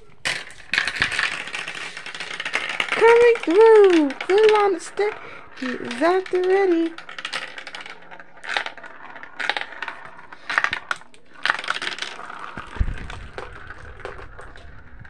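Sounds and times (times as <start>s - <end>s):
marbles rattling through plastic track: 0.0s - 15.0s.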